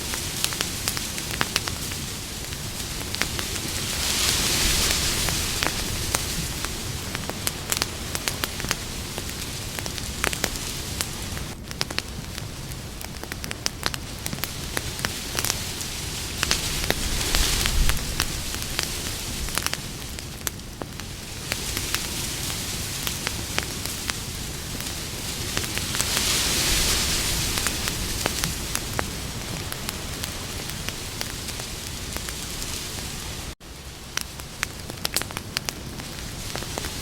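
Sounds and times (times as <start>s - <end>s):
campfire crackling and popping: 0.0s - 37.0s
steady hiss: 0.0s - 37.0s.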